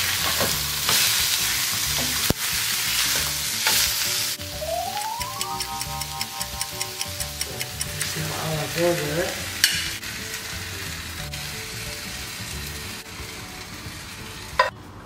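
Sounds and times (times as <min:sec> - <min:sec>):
burgers sizzling in frying pan: 0:00.0 - 0:14.7.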